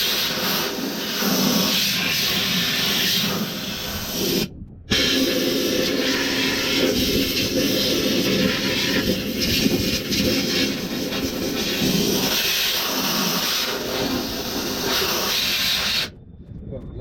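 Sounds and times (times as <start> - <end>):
compressed gas jet hissing: 0.0 - 16.1.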